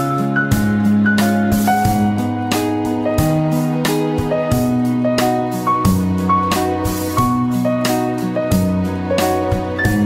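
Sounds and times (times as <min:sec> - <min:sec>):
held bass line: 0:00.0 - 0:10.0
keyboard melody: 0:00.0 - 0:10.0.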